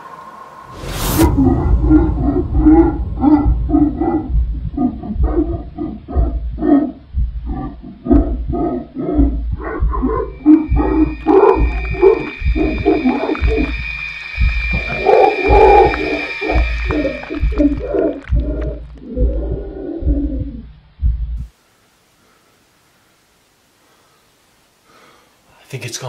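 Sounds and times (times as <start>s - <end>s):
high whine: 0.0s - 8.6s, 9.2s - 21.6s
low rumble: 0.0s - 21.5s.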